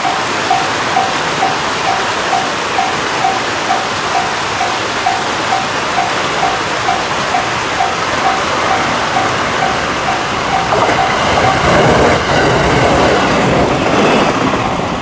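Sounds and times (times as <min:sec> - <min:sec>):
level-crossing warning bell: 0:00.0 - 0:15.0
steady rushing noise: 0:00.0 - 0:15.0.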